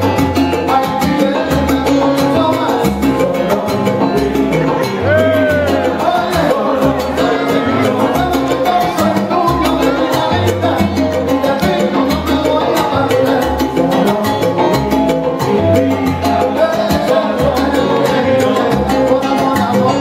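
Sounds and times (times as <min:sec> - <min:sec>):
conga and timbales percussion: 0:00.0 - 0:20.0
man singing into microphone: 0:00.0 - 0:20.0
piano: 0:00.0 - 0:20.0
salsa band playing: 0:00.0 - 0:20.0
upright bass line: 0:00.0 - 0:20.0.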